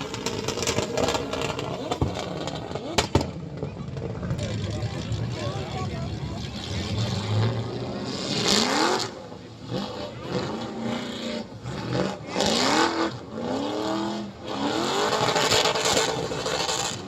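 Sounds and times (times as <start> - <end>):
engines revving hard: 0.0 - 17.0.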